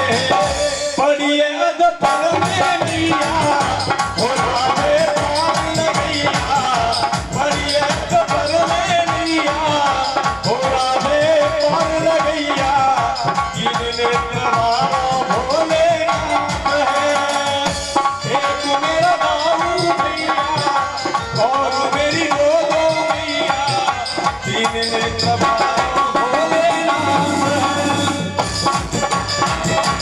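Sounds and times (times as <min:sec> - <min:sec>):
quick hand-drum rhythm: 0:00.0 - 0:01.0, 0:01.9 - 0:30.0.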